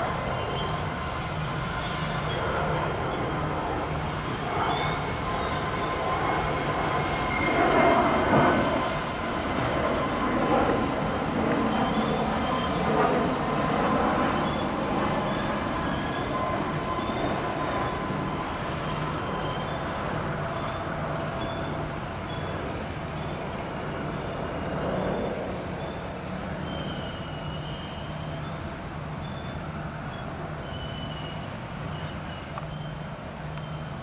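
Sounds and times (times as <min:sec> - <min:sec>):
rail and wheel noise: 0:00.0 - 0:34.0.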